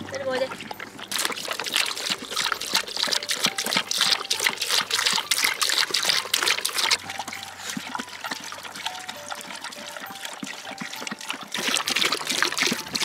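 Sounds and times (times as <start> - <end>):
dog lapping water: 0.0 - 13.0
water trickling from hose: 0.0 - 13.0.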